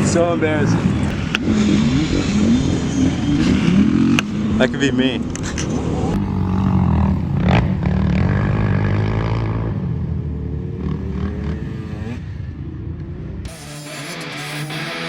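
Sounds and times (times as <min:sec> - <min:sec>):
dirt bike engine: 0:00.0 - 0:15.0.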